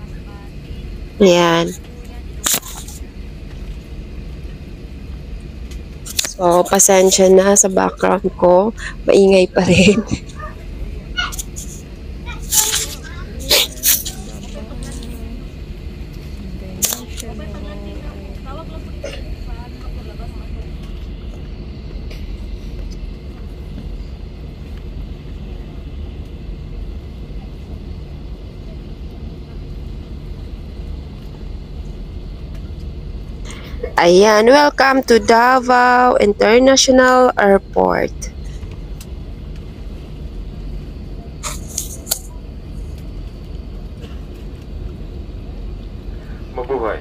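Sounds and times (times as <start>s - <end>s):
jet engine rumble: 0.0s - 47.0s.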